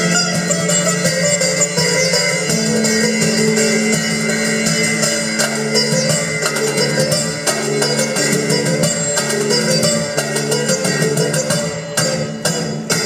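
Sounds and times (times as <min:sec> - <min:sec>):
drums: 0:00.0 - 0:13.0
sitar plucked: 0:00.0 - 0:13.0.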